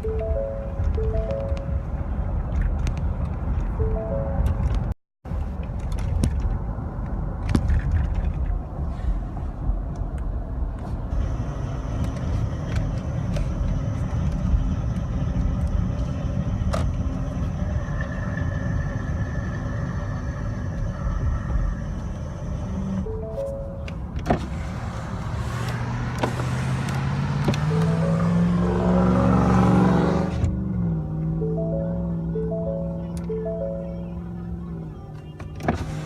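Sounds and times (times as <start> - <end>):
truck engine rumbling: 0.0 - 36.0.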